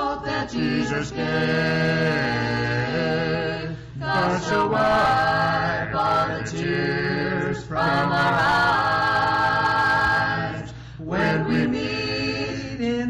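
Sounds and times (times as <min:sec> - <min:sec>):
group singing gospel in harmony: 0:00.0 - 0:13.0.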